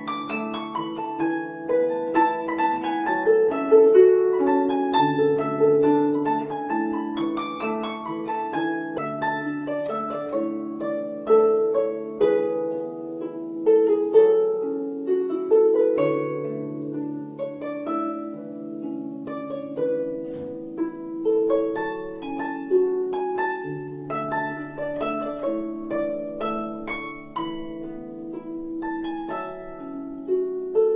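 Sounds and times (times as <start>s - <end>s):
plucked string melody: 0.0s - 30.9s.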